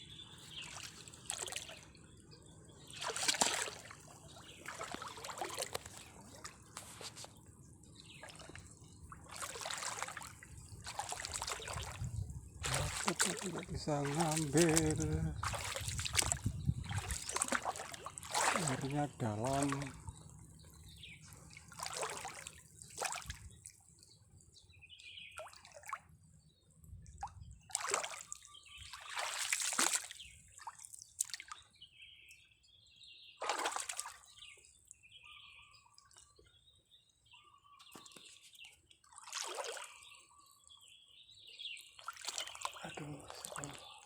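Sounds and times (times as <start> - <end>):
water sloshing and splashing: 0.3 - 24.4, 25.3 - 26.2, 27.0 - 31.7, 33.4 - 35.0, 37.8 - 40.2, 41.8 - 44.0.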